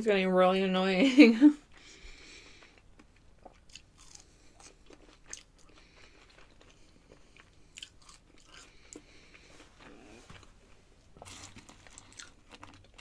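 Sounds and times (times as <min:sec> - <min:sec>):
chewing crispy fries: 0:01.7 - 0:13.0.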